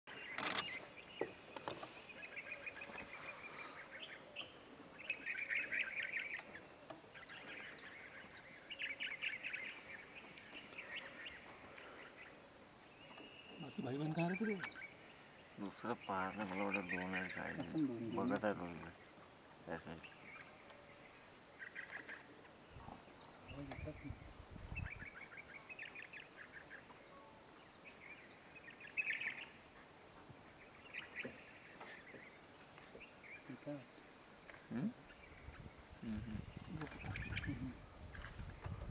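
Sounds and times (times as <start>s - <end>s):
faint outdoor background: 0.0s - 38.9s
birds chattering: 0.1s - 29.9s, 30.5s - 38.9s.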